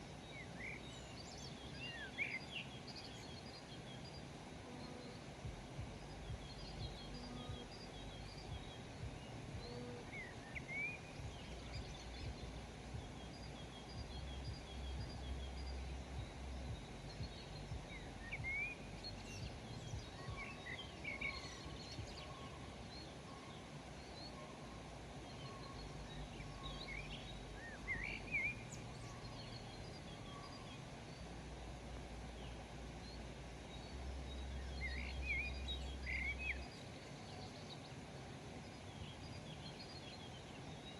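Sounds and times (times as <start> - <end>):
low background rumble: 0.0 - 40.9
small birds chirping: 0.0 - 40.9.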